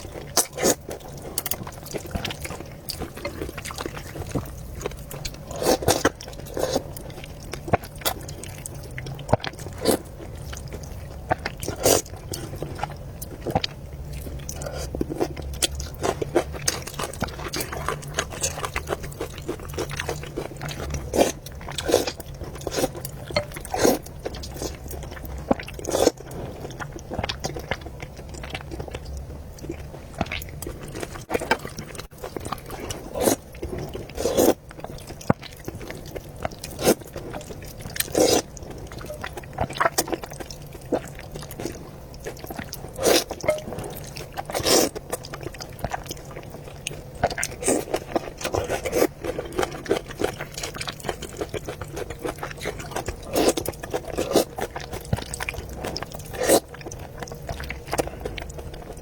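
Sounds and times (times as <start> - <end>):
chewing and biting food: 0.0 - 59.0.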